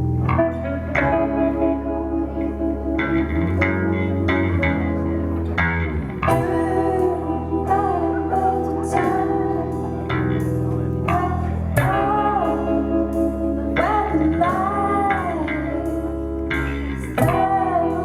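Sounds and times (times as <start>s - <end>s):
bass guitar line: 0.0s - 18.0s
electric guitar: 0.0s - 18.0s
rock band playing live: 0.0s - 18.0s.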